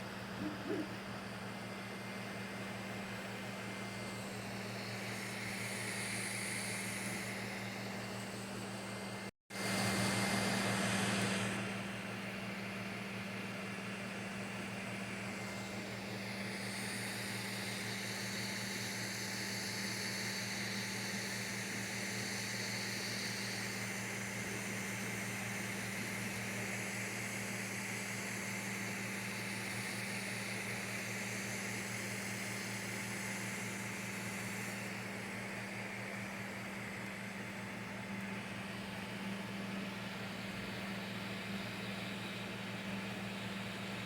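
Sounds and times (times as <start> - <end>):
fan hiss: 0.0 - 44.0
printer mechanical hum: 0.0 - 44.0.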